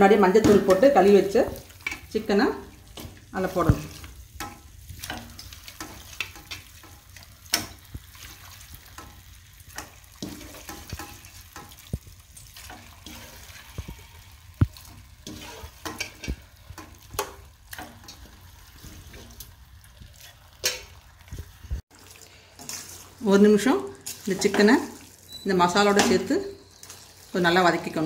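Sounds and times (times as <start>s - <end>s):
light sizzle: 0.0s - 28.0s.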